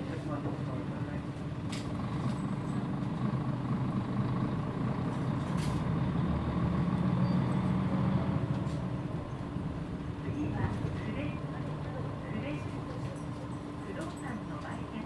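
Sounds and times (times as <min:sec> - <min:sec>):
diesel bus engine droning: 0:00.0 - 0:15.0.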